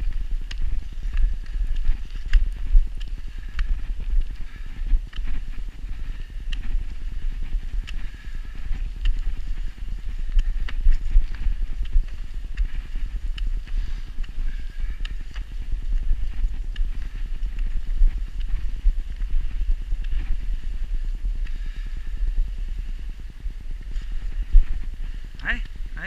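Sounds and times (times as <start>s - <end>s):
footsteps crunching in snow: 0.0s - 26.0s
wind buffeting microphone: 0.0s - 26.0s.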